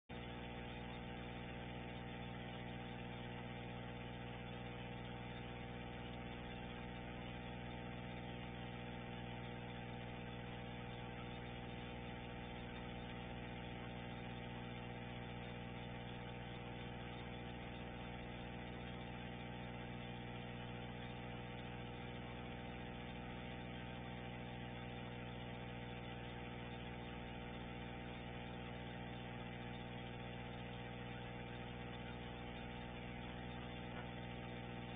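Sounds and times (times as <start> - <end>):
steady electrical hum: 0.1 - 34.9.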